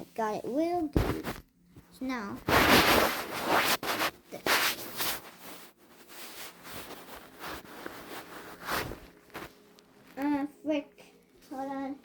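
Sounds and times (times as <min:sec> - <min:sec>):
rustling and handling noises: 0:00.0 - 0:12.0.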